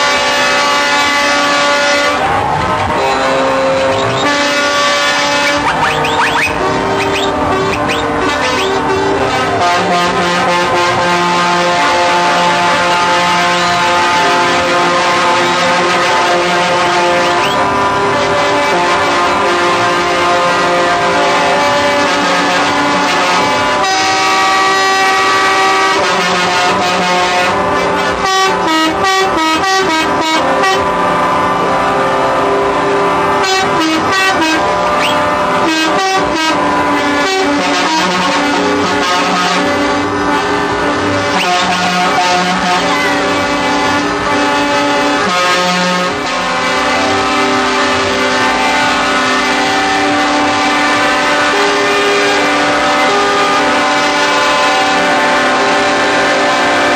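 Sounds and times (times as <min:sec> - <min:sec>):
truck air horns: 0:00.0 - 0:56.9.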